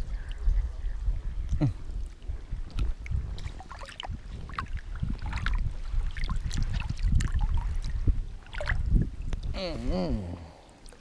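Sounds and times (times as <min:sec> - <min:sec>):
wind rumbling on microphone: 0:00.0 - 0:10.6
small waves lapping: 0:02.1 - 0:11.0.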